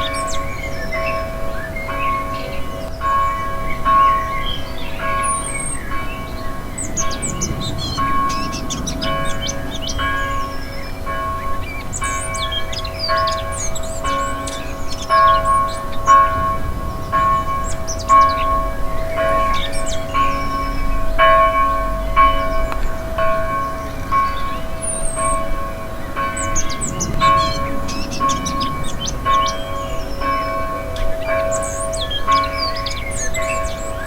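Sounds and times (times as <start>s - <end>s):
birds twittering: 0.0s - 34.0s
church bell tolling: 0.0s - 34.0s.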